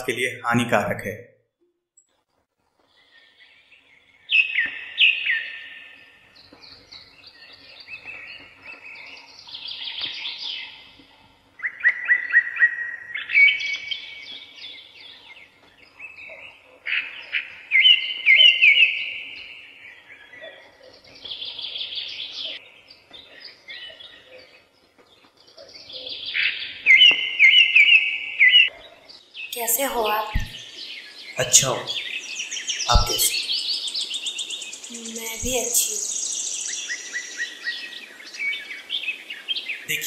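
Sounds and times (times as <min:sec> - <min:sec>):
birds chirping and trilling: 0:02.8 - 0:40.0.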